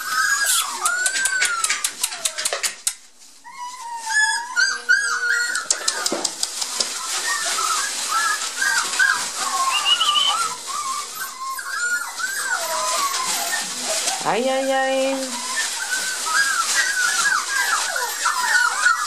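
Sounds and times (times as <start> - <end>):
puppies whining and yelping: 0.0 - 19.0
newspaper bedding rustling: 3.2 - 19.0.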